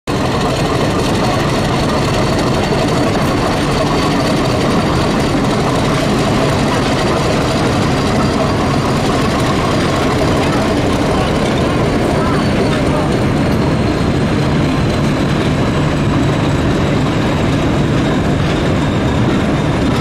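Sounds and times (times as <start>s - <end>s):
diesel locomotive engine: 0.0s - 20.0s
train coaches rolling past: 0.1s - 20.0s.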